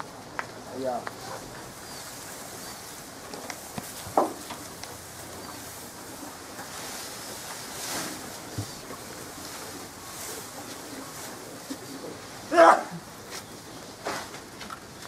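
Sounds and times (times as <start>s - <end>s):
grass fodder rustling: 0.8s - 15.0s.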